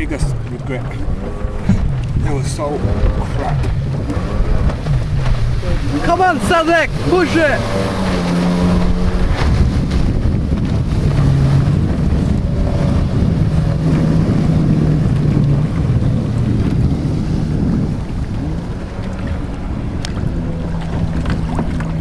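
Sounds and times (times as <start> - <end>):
watercraft engine humming: 0.0 - 22.0
wind rumble on microphone: 0.0 - 22.0.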